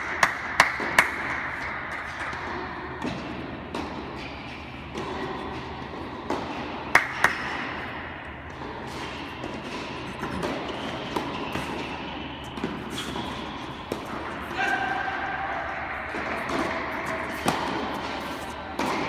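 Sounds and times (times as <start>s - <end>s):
tennis racket strikes: 0.0s - 15.0s, 16.1s - 19.0s
tennis ball bounces: 0.1s - 4.3s, 4.9s - 14.5s, 16.1s - 19.0s.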